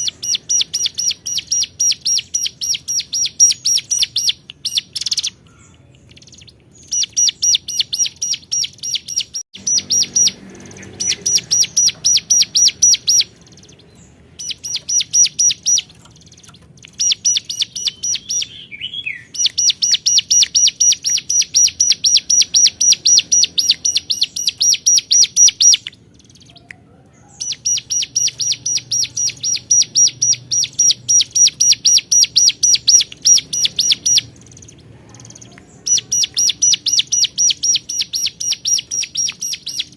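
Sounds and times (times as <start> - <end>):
bird high rapid chirping: 0.0 - 39.9.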